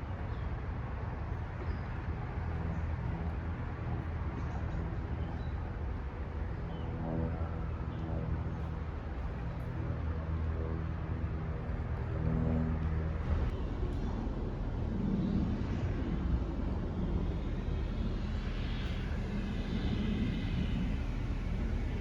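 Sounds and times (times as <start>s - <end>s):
humming engine note: 0.0s - 22.0s
vehicle engine rumble: 0.0s - 22.0s.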